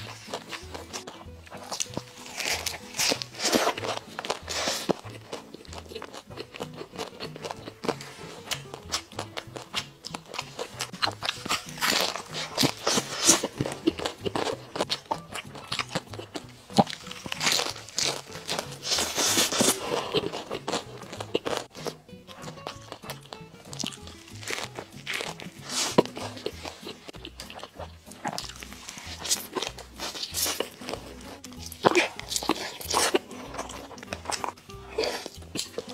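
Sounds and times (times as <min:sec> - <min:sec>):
background music with bass line: 0:00.0 - 0:35.9
crunching and chewing: 0:00.0 - 0:35.9.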